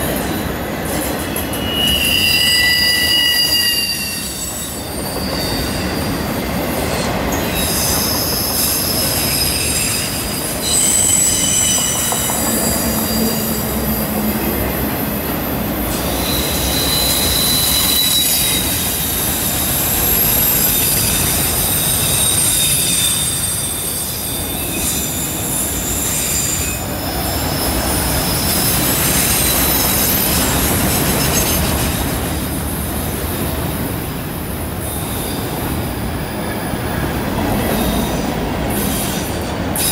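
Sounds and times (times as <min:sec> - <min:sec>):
train wheels squealing: 0:00.0 - 0:32.6, 0:34.8 - 0:39.9
rumble of wheels on rail: 0:00.0 - 0:39.9.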